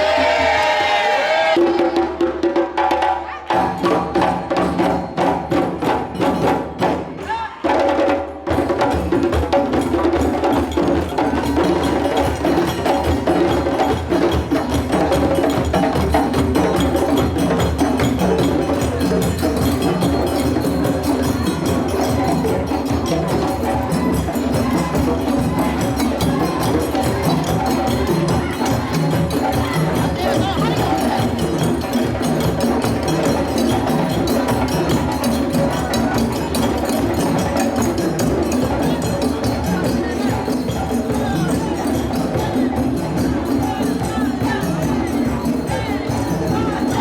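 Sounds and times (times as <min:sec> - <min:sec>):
percussion band playing: 0:00.0 - 0:47.0.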